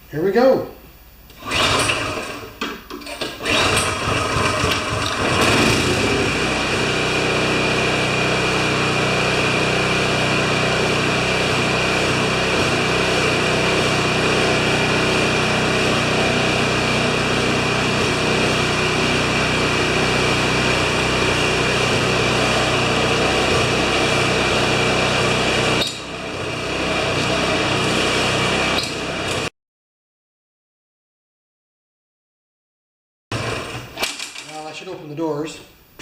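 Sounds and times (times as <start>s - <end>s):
small engine starting and running: 1.3s - 29.5s, 33.3s - 34.5s.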